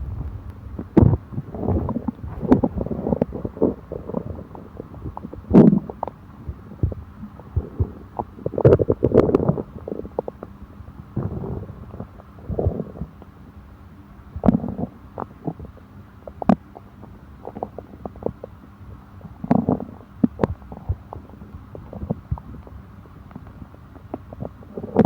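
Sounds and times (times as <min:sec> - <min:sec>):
stomach gurgling and rumbling: 0:00.0 - 0:25.0.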